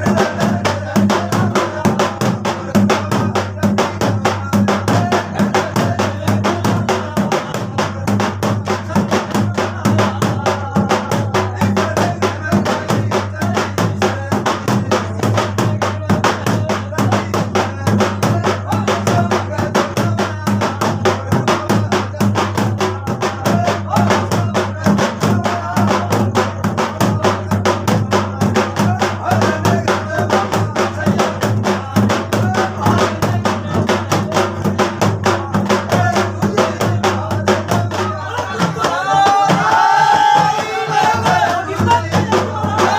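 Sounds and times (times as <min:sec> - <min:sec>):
fast drum and percussion beat: 0:00.0 - 0:42.9.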